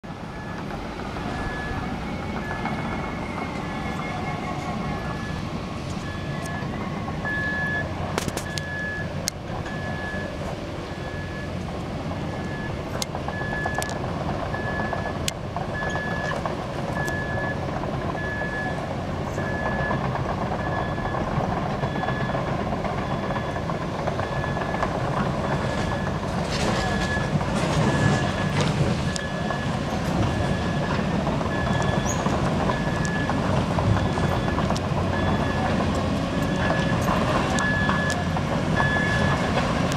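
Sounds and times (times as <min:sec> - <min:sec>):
excavator diesel engine: 0:00.0 - 0:39.9
travel alarm beeping: 0:00.3 - 0:00.7, 0:01.3 - 0:11.6, 0:12.3 - 0:16.4, 0:17.0 - 0:17.6, 0:18.2 - 0:18.8, 0:19.4 - 0:21.2, 0:21.8 - 0:39.9.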